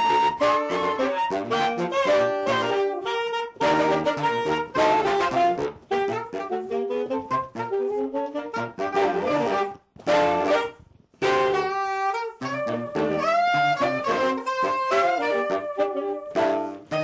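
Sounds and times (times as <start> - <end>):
saxophone quartet playing: 0.0 - 17.0.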